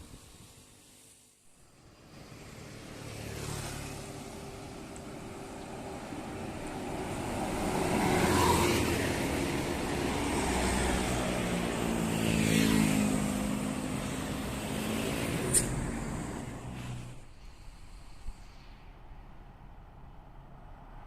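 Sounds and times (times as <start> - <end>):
vehicles passing by: 0.2 - 21.0.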